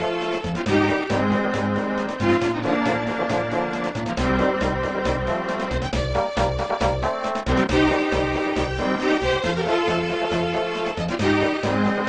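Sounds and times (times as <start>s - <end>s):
music melody: 0.0s - 12.0s.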